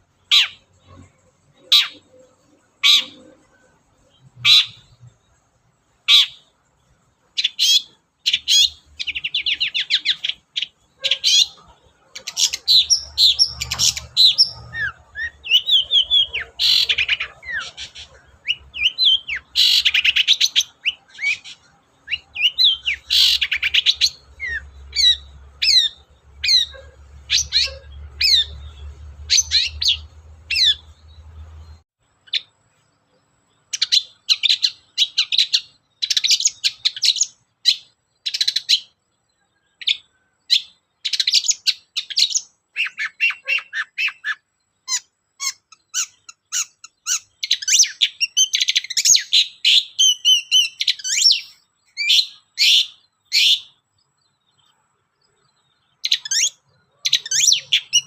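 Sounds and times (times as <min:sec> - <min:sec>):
bird singing chattering notes: 0:00.0 - 0:06.6, 0:07.2 - 0:32.6, 0:39.6 - 0:54.8, 0:55.5 - 0:58.0.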